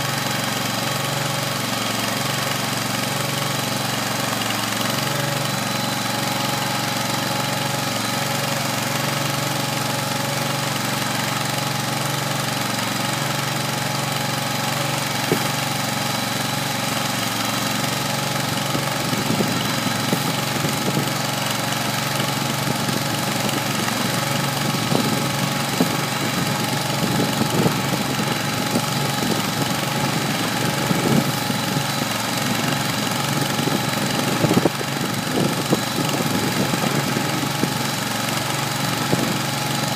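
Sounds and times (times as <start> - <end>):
feed mixer knocking: 0.0 - 39.9
gas engine running: 0.0 - 39.9.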